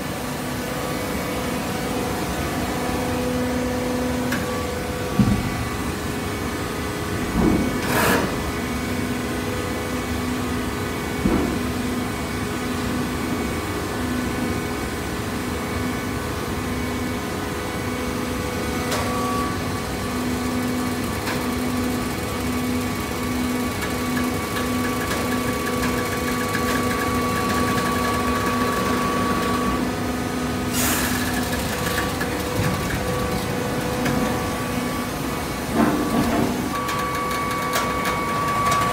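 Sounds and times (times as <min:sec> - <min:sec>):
baling press machine hum: 0:00.0 - 0:38.9.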